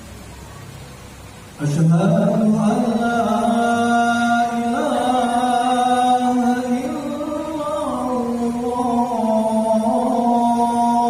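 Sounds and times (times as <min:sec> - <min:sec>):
man chanting call to prayer: 0:01.6 - 0:11.0.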